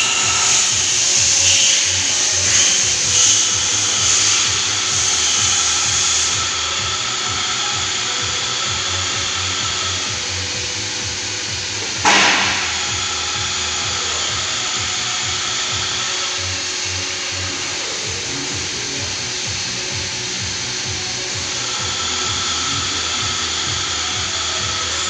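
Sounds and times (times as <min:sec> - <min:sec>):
machinery running: 0:00.0 - 0:25.0.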